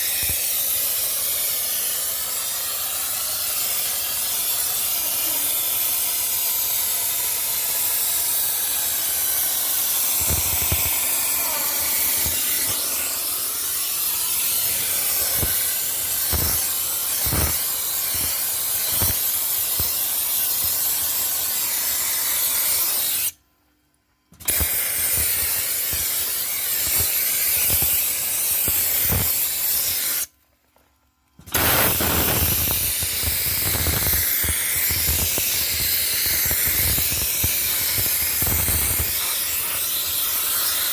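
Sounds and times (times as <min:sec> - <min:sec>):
dry-ice blaster hissing: 0:00.0 - 0:23.4, 0:24.4 - 0:30.3, 0:31.4 - 0:40.9.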